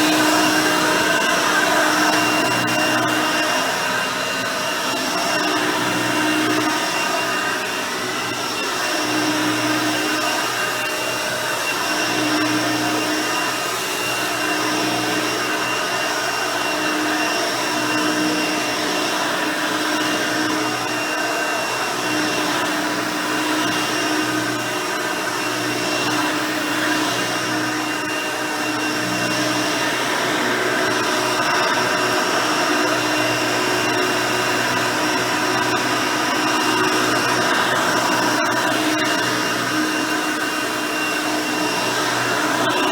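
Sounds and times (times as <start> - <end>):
upright vacuum cleaner whining: 0.0 - 42.9.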